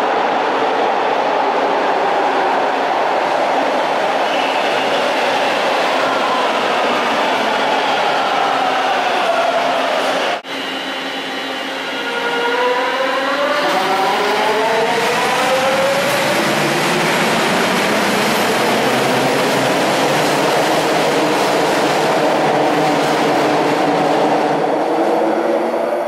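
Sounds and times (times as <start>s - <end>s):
train running noise: 2.6s - 26.0s.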